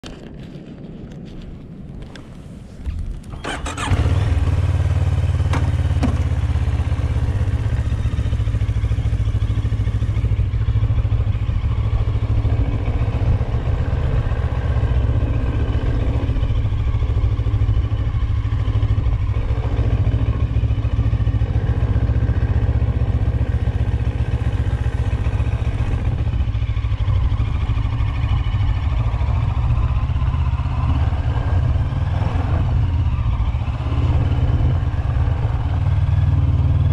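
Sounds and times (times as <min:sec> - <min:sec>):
motorcycle engine running: 0:03.3 - 0:36.9.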